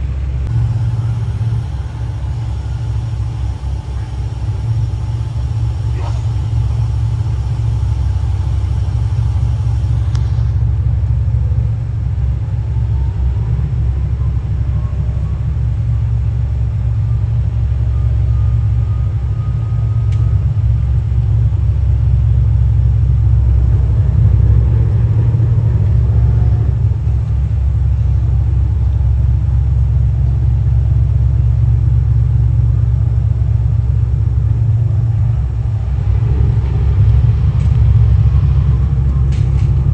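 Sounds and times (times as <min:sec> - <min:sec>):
boat engines rumbling: 0:00.0 - 0:39.9
faint whine: 0:00.0 - 0:39.9.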